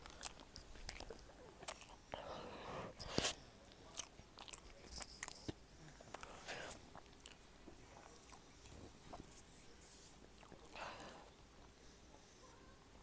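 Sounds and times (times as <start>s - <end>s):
person chewing with wet clicks: 0.0s - 9.4s, 10.3s - 11.4s.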